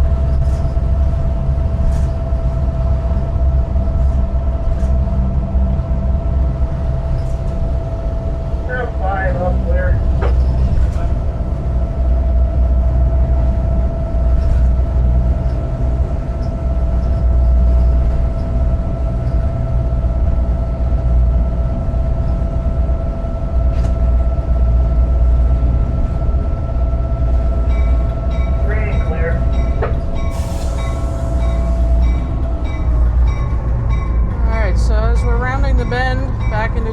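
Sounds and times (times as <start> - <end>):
locomotive engine rumble: 0.0 - 36.9.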